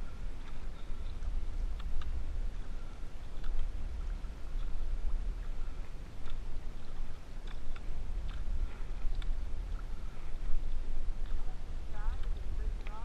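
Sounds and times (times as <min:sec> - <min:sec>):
faint ticks and drips: 0:00.0 - 0:13.0
paddles stroking through water: 0:00.0 - 0:13.0
wind rumble on microphone: 0:00.0 - 0:13.0.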